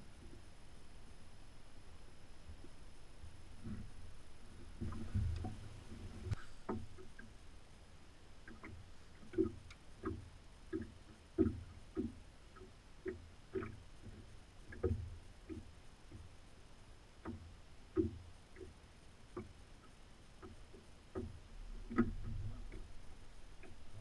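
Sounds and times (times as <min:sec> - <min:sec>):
waves lapping against boat hull: 0:02.5 - 0:07.6, 0:08.4 - 0:24.0.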